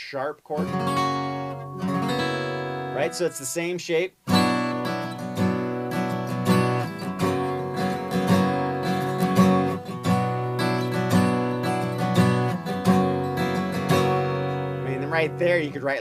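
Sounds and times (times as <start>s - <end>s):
acoustic guitar strumming: 0.6s - 16.0s.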